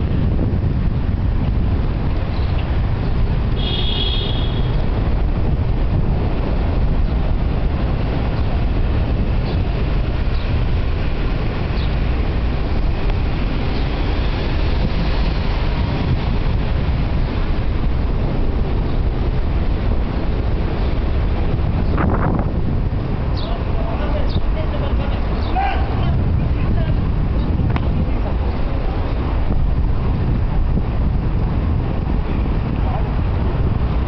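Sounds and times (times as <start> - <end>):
bicycle rolling on pavement: 0.0 - 34.0
wind noise on microphone: 0.0 - 34.0.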